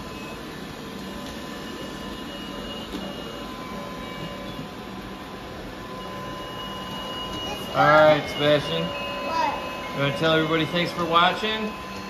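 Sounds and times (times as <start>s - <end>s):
robot vacuums humming: 0.0s - 12.0s
thin steady tones: 0.0s - 12.0s.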